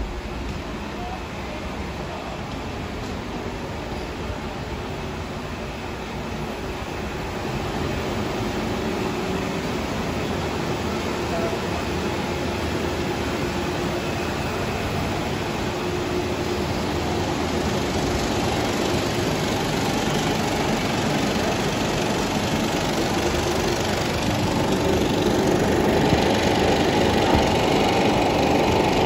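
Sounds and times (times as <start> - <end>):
film projectors running: 0.0 - 29.0.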